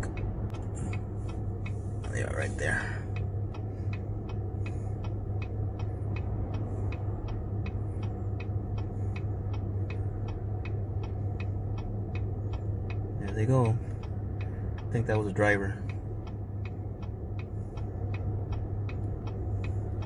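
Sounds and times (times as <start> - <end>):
idling engine hum: 0.0 - 20.0
turn signal clicking: 0.0 - 20.0.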